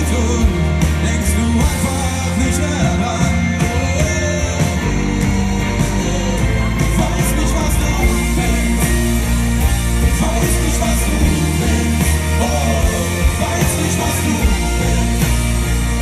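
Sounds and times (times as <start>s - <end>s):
bass line: 0.0s - 16.0s
drums: 0.0s - 16.0s
person singing: 0.0s - 16.0s.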